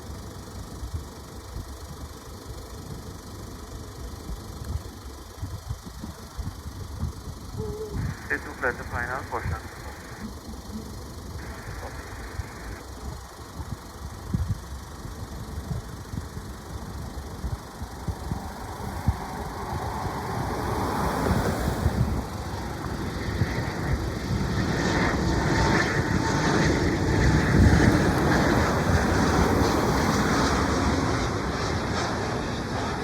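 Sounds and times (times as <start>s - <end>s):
aircraft engine: 0.0s - 33.0s
constant low rumble: 0.0s - 33.0s.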